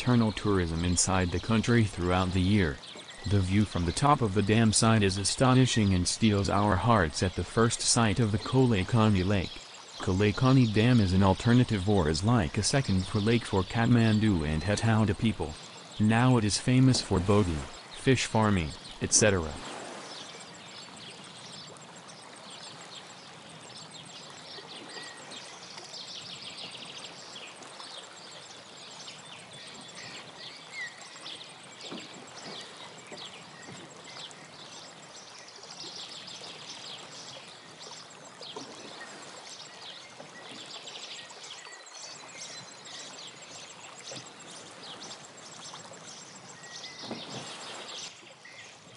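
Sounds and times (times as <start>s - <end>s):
water lapping around rowing boat: 0.0s - 48.9s.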